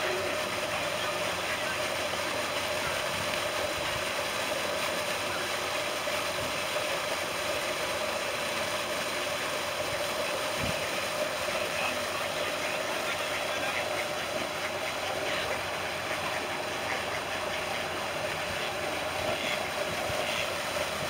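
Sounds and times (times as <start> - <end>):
fountain spray splashing on water: 0.0 - 21.0.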